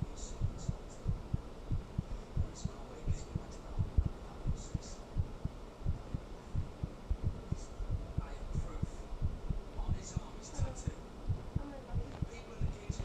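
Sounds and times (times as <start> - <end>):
heartbeat thumps: 0.0 - 13.0
low hum: 0.0 - 13.0.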